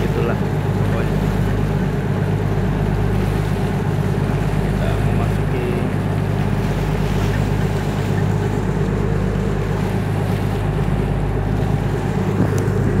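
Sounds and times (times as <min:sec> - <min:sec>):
boat engine running: 0:00.0 - 0:13.0
water noise: 0:00.0 - 0:13.0
wind: 0:00.0 - 0:13.0.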